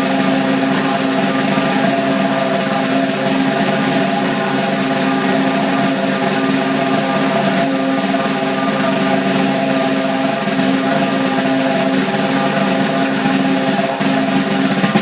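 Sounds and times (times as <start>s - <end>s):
snare drum roll: 0.0s - 15.0s.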